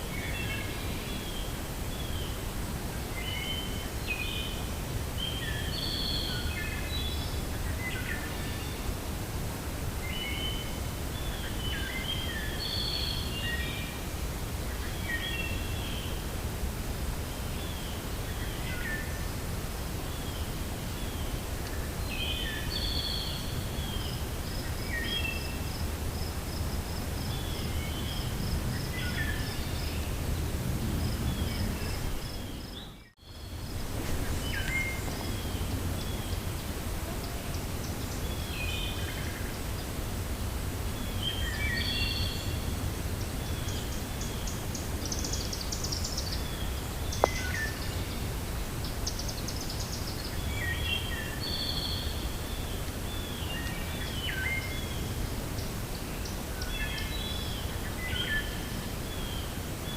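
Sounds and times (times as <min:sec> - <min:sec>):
songbirds singing: 0:00.0 - 0:09.1, 0:10.0 - 0:16.3, 0:17.2 - 0:59.9
wind in forest: 0:00.0 - 0:59.9.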